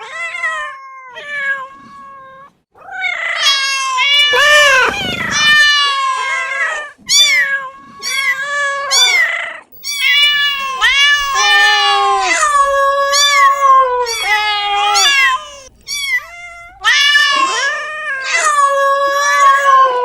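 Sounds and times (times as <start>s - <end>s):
cat meowing: 0.0s - 20.0s.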